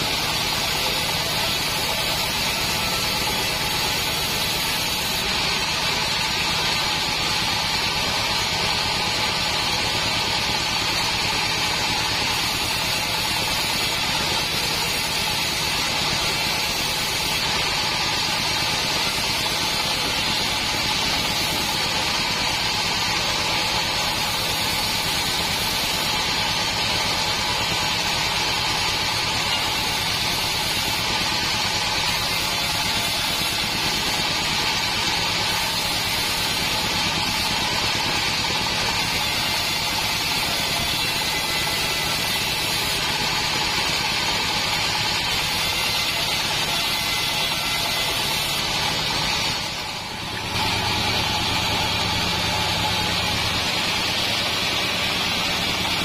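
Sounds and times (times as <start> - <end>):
bandsaw mill droning: 0.0 - 56.0.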